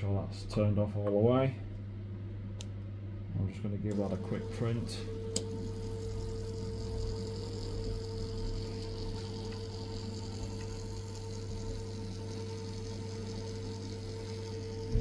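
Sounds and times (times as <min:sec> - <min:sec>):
printer electrical hum and whine: 0:00.0 - 0:15.0.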